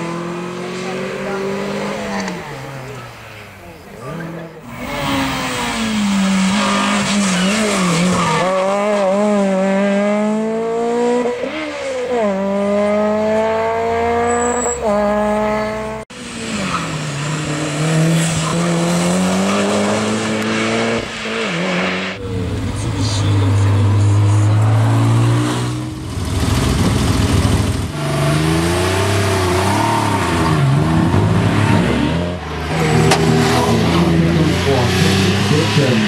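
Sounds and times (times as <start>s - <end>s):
car engine revving through gears: 0.0s - 3.0s, 4.0s - 36.0s.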